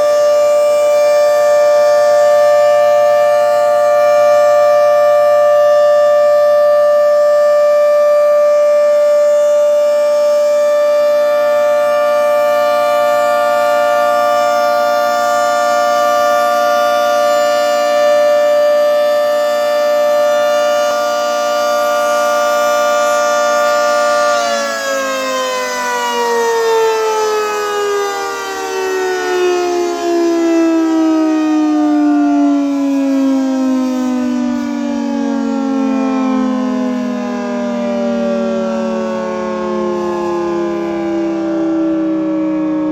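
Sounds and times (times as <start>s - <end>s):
warning siren winding down: 0.0s - 42.9s.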